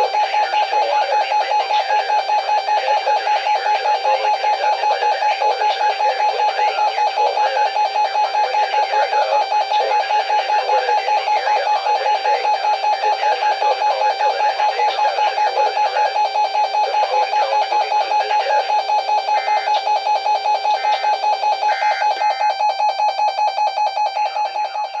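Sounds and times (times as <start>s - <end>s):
pulsing alarm tone: 0.0s - 25.0s.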